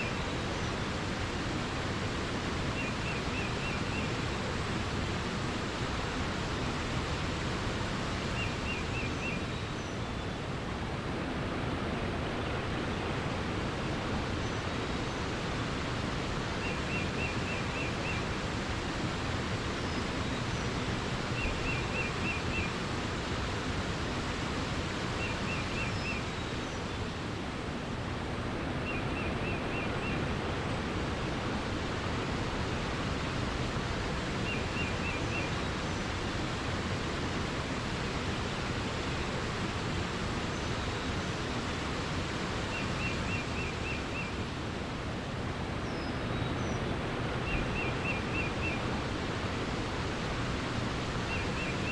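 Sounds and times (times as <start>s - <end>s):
running water rushing: 0.0s - 51.9s.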